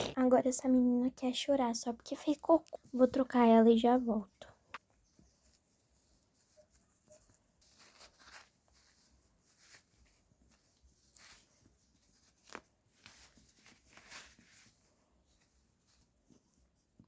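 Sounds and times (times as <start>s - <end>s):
faint rustling and handling: 1.2s - 17.0s.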